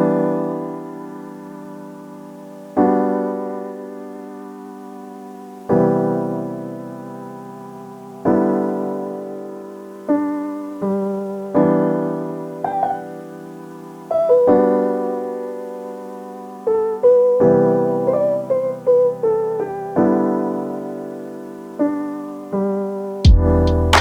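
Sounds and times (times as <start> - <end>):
piano chords and melody: 0.0 - 24.0.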